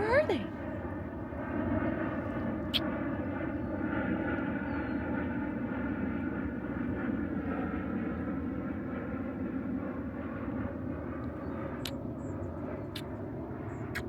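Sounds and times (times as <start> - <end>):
airplane engine drone: 0.0 - 14.0.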